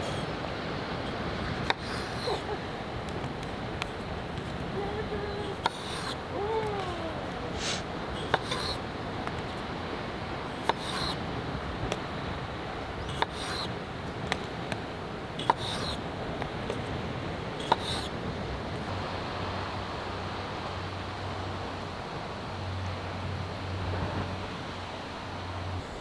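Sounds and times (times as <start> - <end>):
sea surf: 0.0 - 26.0.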